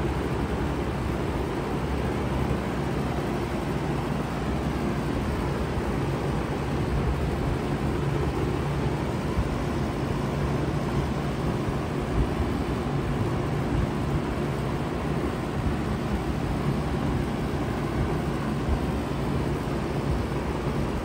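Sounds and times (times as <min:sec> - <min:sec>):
fan air rushing: 0:00.0 - 0:21.0.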